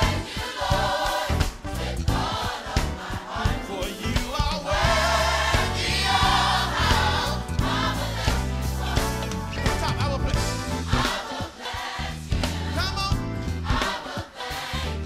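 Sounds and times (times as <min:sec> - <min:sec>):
instrumental accompaniment: 0:00.0 - 0:14.8
gospel choir singing: 0:00.0 - 0:15.0.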